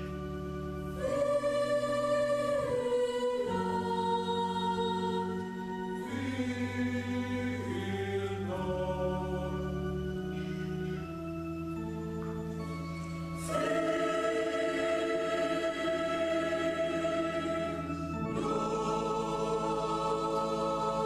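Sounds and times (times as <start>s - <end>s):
choir singing in harmony: 0.0s - 11.8s, 12.7s - 21.0s.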